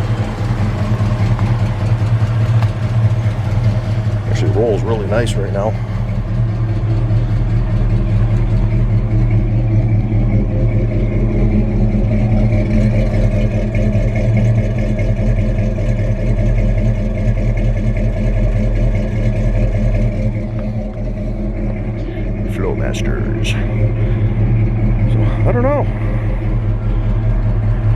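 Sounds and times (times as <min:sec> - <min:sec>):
truck engine running: 0:00.0 - 0:27.9.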